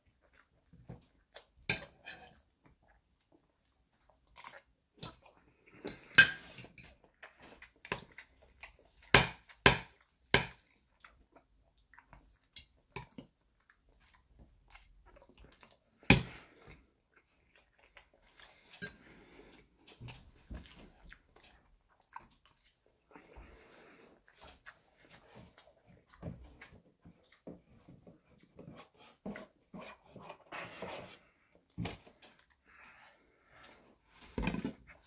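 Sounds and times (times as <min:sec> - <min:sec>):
close chewing: 0:00.0 - 0:30.6.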